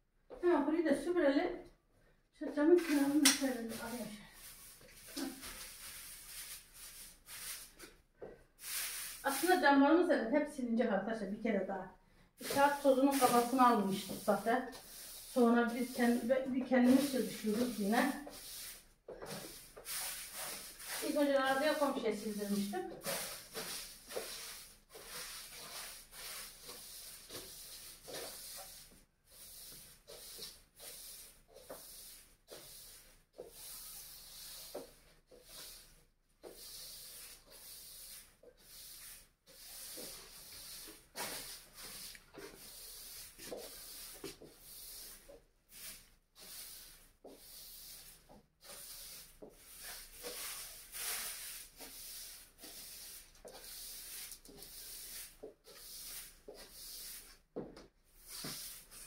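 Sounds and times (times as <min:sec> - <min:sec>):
broom sweeping a floor: 0:02.5 - 0:09.8, 0:12.4 - 0:59.0.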